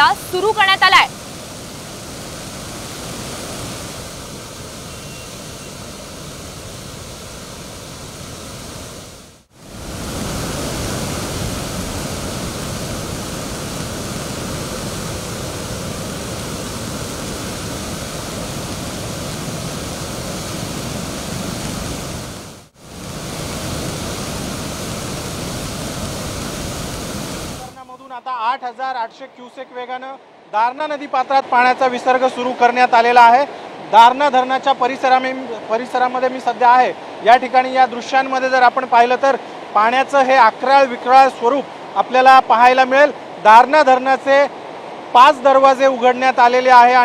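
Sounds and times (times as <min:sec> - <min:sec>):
water rushing through dam gates: 0:00.0 - 0:28.6, 0:30.2 - 0:47.0.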